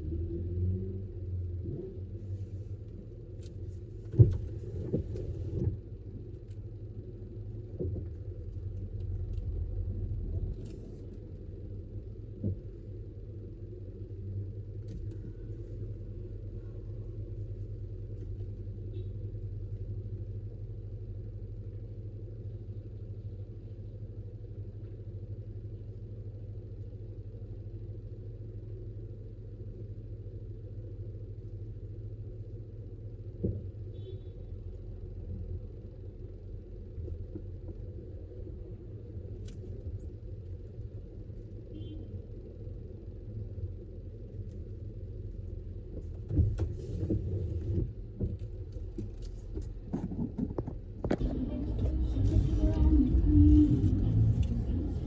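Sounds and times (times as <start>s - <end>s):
car road rumble inside cabin: 0.0s - 55.0s.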